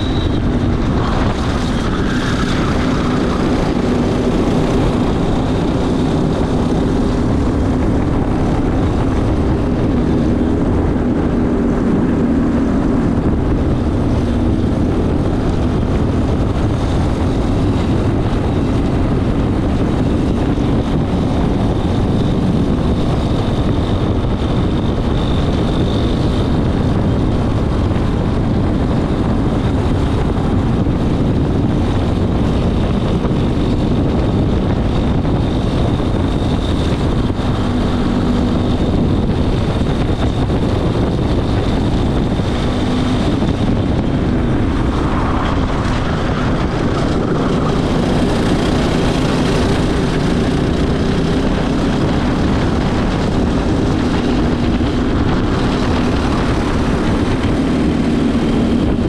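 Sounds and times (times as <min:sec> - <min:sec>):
go-kart engine running hard: 0:00.0 - 0:59.0
wind noise on microphone: 0:00.0 - 0:59.0.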